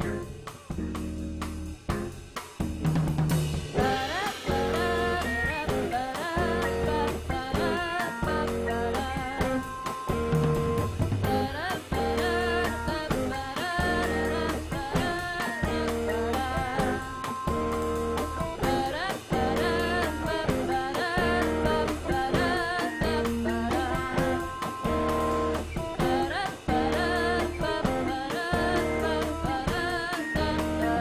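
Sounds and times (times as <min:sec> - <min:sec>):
bass guitar: 0:00.0 - 0:31.0
drum kit: 0:00.0 - 0:31.0
electric guitar lead: 0:00.0 - 0:31.0.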